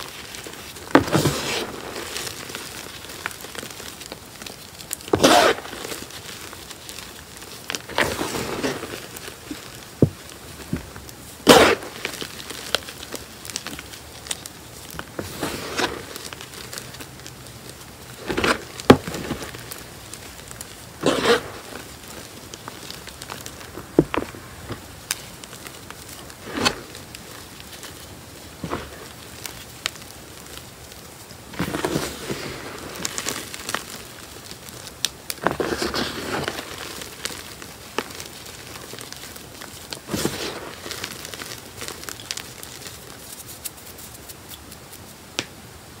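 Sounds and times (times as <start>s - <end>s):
chalk crunching and crackling: 0.0s - 45.3s.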